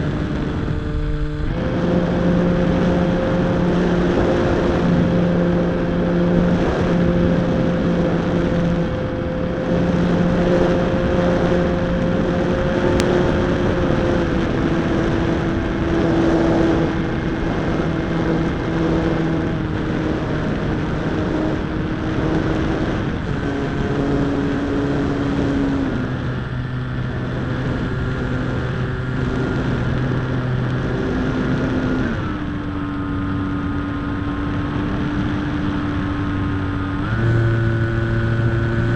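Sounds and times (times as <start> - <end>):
model plane motor and propeller: 0.0 - 38.9
wind rushing over microphone: 0.0 - 38.9.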